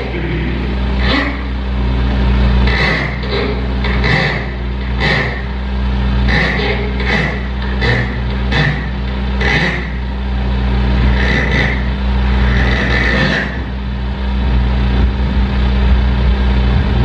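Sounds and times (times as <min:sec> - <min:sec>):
low electronic drone: 0:00.0 - 0:17.0.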